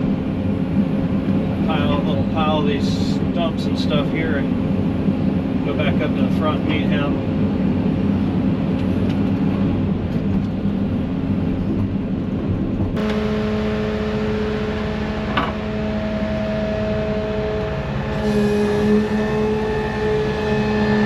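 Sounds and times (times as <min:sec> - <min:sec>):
diesel machinery running: 0:00.0 - 0:21.0
steady whine: 0:00.0 - 0:21.0.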